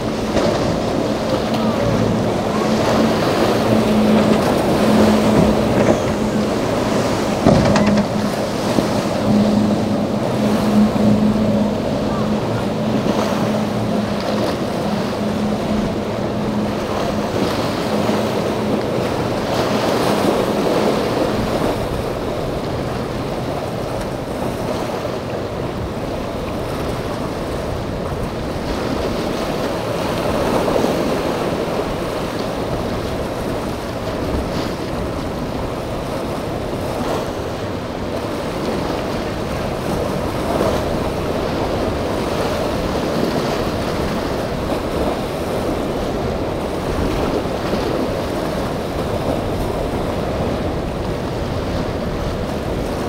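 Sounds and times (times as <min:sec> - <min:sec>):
boat engine humming: 0:00.0 - 0:53.0
waves rushing: 0:00.0 - 0:53.0
wind on microphone: 0:00.0 - 0:53.0.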